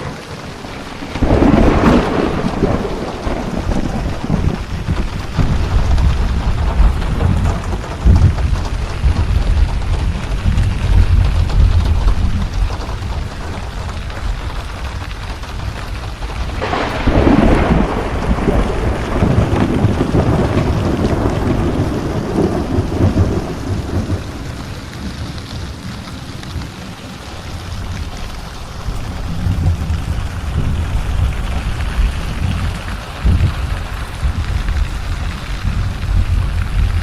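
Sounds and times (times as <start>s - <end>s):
steady rain: 0.0s - 37.0s
thunder clap and rumble: 0.0s - 37.0s.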